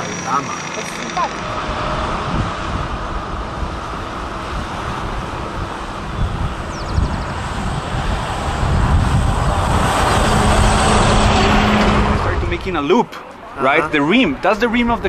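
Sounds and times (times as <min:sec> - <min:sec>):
highway traffic rushing past: 0:00.0 - 0:15.0
steady engine drone: 0:00.0 - 0:15.0.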